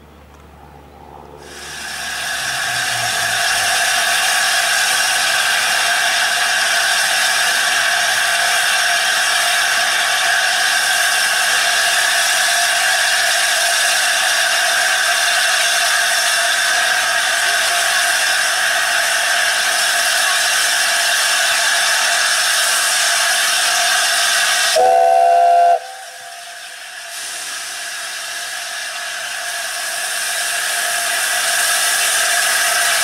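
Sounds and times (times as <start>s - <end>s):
steam locomotive hissing: 1.4s - 33.0s.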